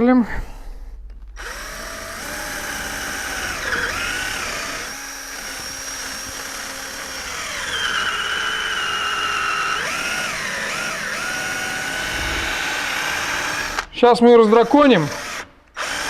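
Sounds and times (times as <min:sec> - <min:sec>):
electric drill whining: 0:01.4 - 0:13.9, 0:15.1 - 0:16.0.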